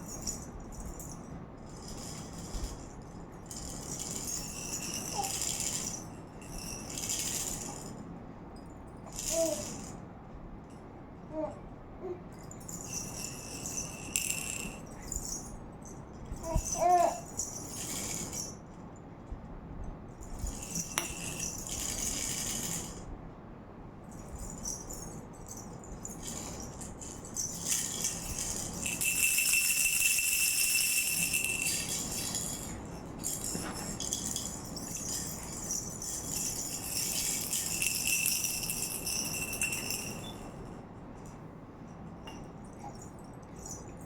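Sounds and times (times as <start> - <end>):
toy rattle shaken: 0.0 - 8.1, 8.9 - 10.1, 11.3 - 18.7, 20.2 - 23.1, 24.1 - 41.3, 42.6 - 44.0.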